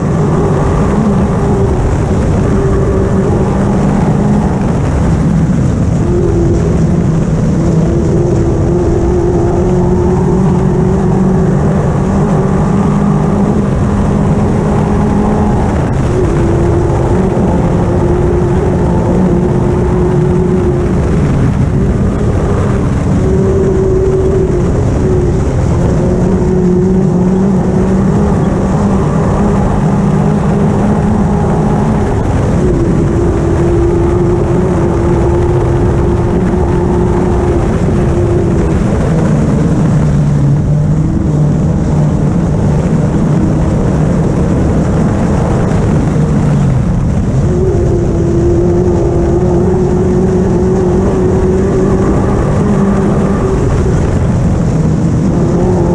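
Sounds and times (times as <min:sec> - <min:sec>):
buggy engine from inside: 0:00.0 - 0:55.9
tyre and chassis rumble: 0:00.0 - 0:55.9.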